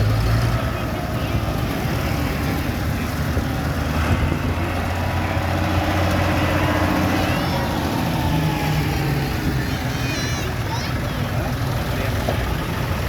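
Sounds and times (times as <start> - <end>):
tractor engines droning: 0.0 - 13.0.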